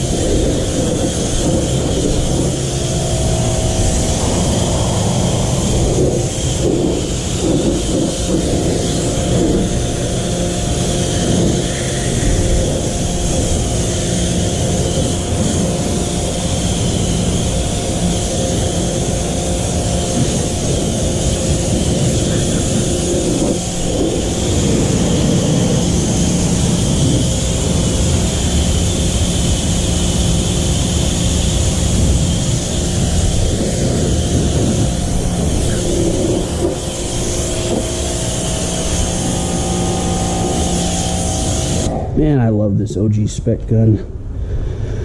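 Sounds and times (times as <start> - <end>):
pressure washer motor hum: 0.0 - 43.0
water jet spraying a car: 0.0 - 43.1.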